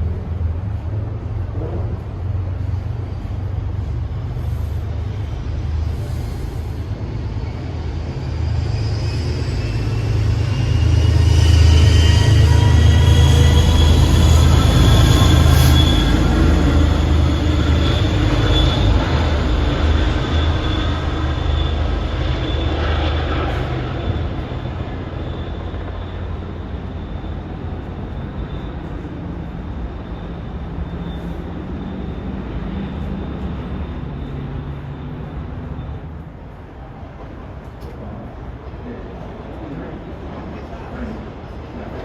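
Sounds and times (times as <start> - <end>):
train rumbling past: 0.0 - 42.0.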